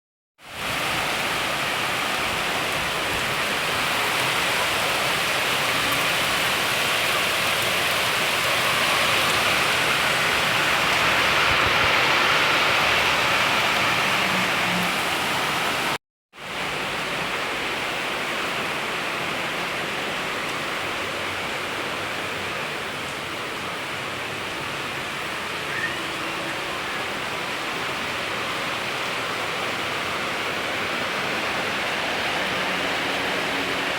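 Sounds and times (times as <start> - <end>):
heavy rain falling: 0.5 - 33.9.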